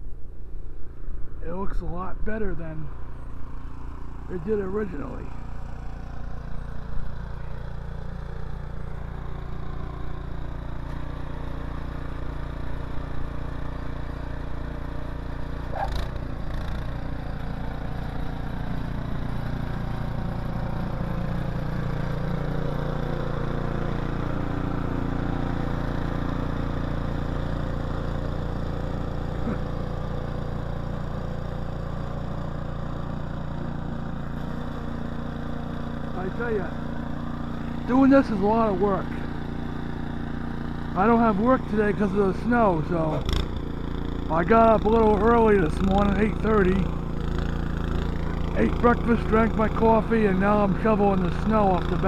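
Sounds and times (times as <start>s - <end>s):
snowblower engine running: 0.5s - 52.0s.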